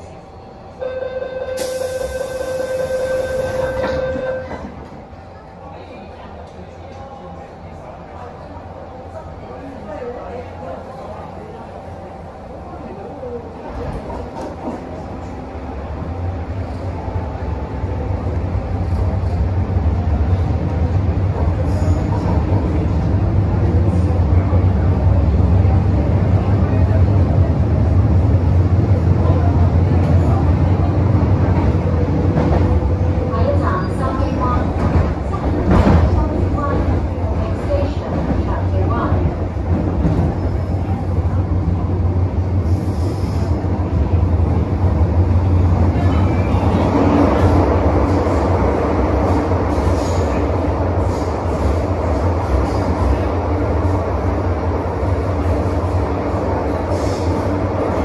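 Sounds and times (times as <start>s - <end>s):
train wheels and motors rumbling: 1.6s - 58.0s.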